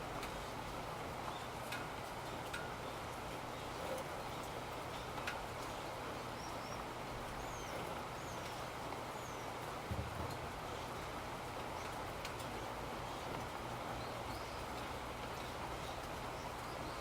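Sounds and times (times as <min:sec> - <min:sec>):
faint water drips: 0:00.0 - 0:17.0
steady rain falling: 0:00.0 - 0:17.0.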